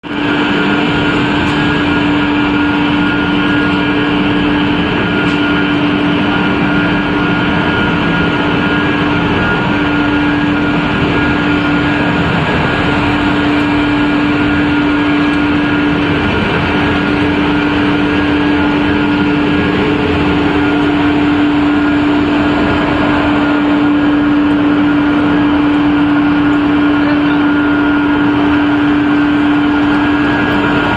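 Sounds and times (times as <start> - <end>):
constant low hum: 0.0 - 30.9
production line machinery running: 0.0 - 30.9.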